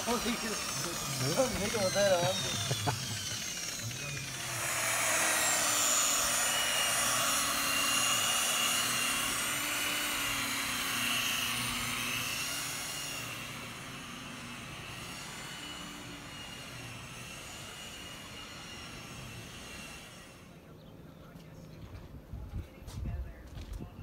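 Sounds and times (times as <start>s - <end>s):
electric polisher whirring: 0.0s - 20.6s.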